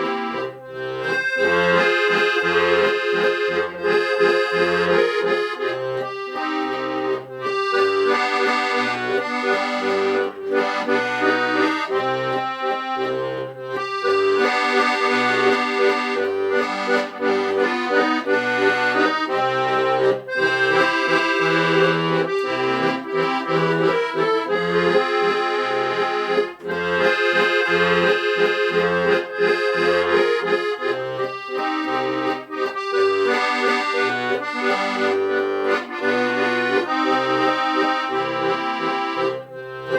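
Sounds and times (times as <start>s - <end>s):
accordion music: 0.0s - 39.9s.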